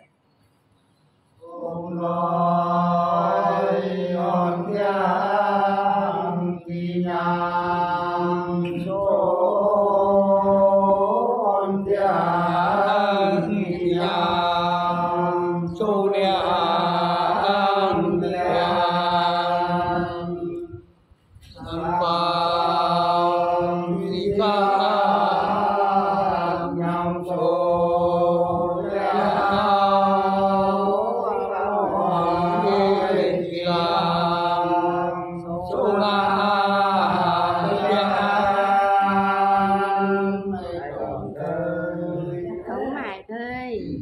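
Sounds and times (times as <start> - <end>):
men singing folk song: 1.4 - 20.8, 21.5 - 43.1.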